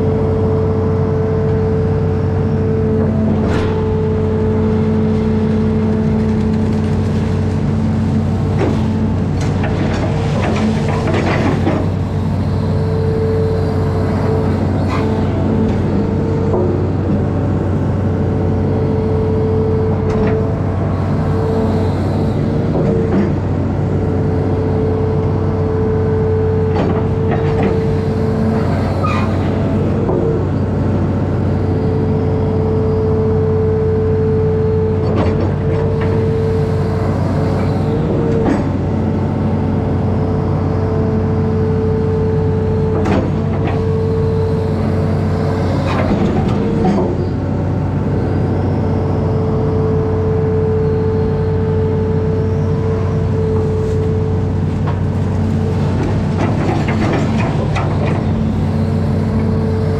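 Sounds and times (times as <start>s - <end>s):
diesel engine running under load: 0.0s - 59.9s
steady machine whine: 0.0s - 59.9s.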